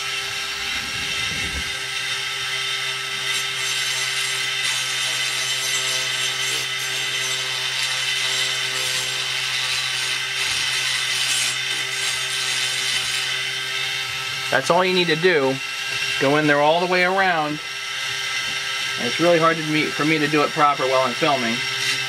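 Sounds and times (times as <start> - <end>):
rotary tool grinding metal: 0.0 - 22.0.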